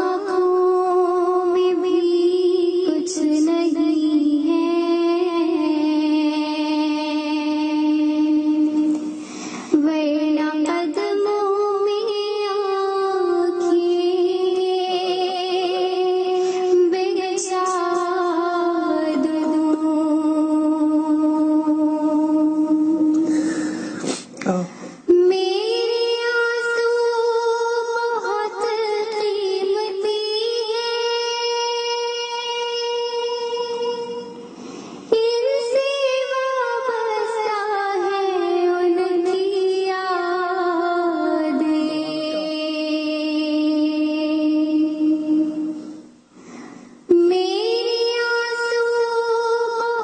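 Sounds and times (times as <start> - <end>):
girl singing into a microphone: 0.0 - 50.0.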